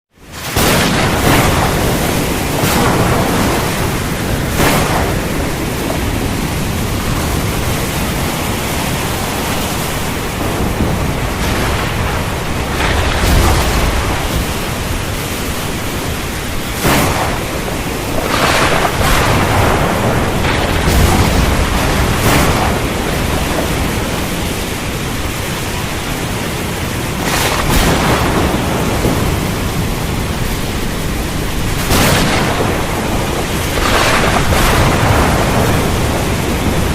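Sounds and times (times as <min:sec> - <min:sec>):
heavy rain hiss: 0:00.2 - 0:36.9
deep thunder rumbling: 0:00.3 - 0:36.9
thunder cracks: 0:00.3 - 0:36.9.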